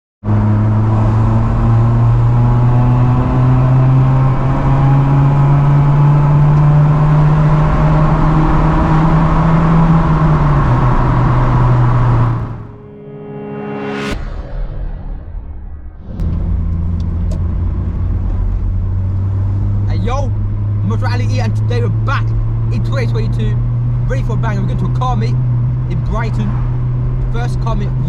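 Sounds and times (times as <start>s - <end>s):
car engine under load: 0.2s - 13.1s, 16.1s - 28.0s.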